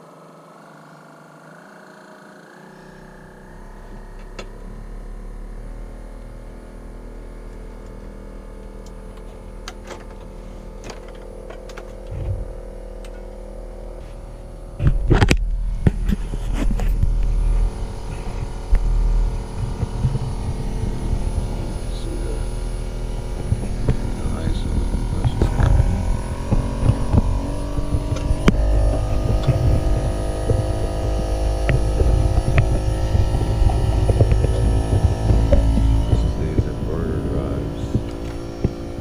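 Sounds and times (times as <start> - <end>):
heat pump mechanical hum: 0.0 - 39.0
loud low rumble: 2.8 - 9.1, 12.1 - 39.0.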